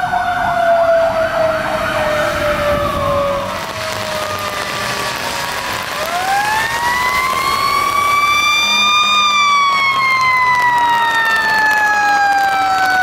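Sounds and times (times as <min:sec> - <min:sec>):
fire truck siren wailing: 0:00.0 - 0:13.0
second siren steady pitch: 0:00.0 - 0:13.0.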